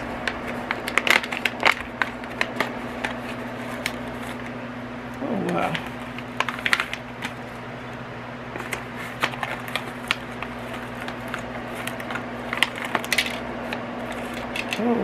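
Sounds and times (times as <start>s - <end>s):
packaging crinkling: 0.0s - 15.0s
steady low hum: 0.0s - 15.0s.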